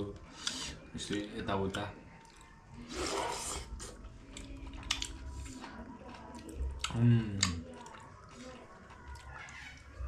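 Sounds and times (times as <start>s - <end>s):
chewing: 0.2s - 10.0s.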